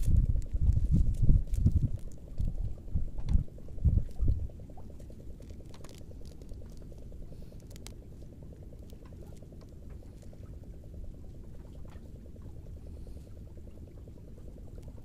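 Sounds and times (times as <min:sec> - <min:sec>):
clicks and rustles of fish handling: 0:00.0 - 0:13.0
steady low rumble: 0:00.0 - 0:15.0.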